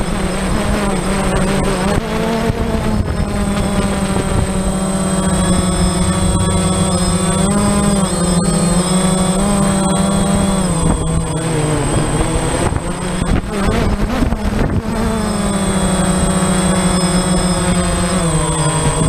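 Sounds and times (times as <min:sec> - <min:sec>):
quadcopter motors buzzing: 0:00.0 - 0:19.0.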